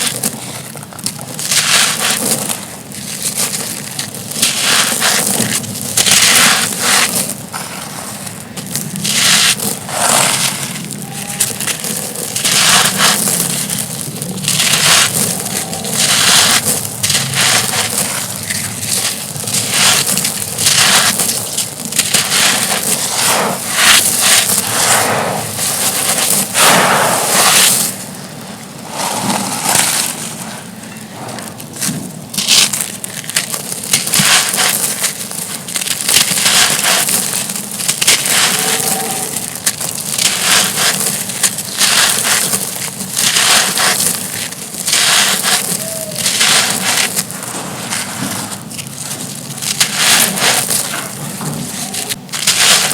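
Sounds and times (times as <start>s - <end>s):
stone slabs crumbling and crunching: 0.0s - 28.2s, 29.2s - 52.9s
grit scraping: 0.0s - 52.9s.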